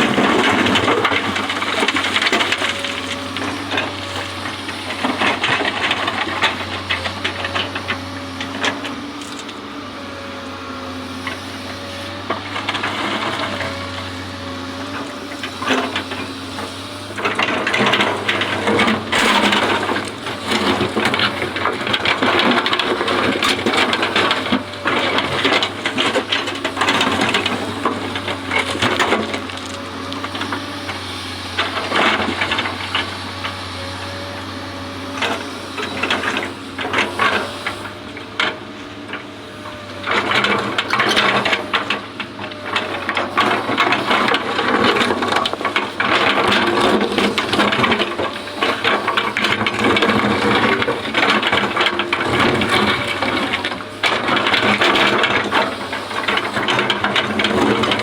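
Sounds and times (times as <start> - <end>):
excavator engine drone: 0.0 - 58.0
excavator rattling and clattering: 0.0 - 58.0.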